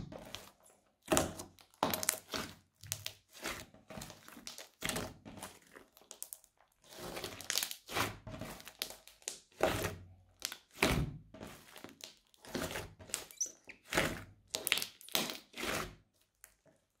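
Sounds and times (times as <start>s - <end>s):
slime crackling squishes: 0.0s - 16.9s.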